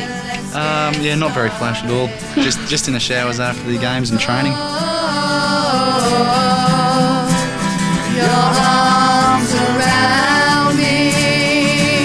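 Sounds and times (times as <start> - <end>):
guitar with steady beat: 0.0 - 12.0
person singing: 0.0 - 12.0.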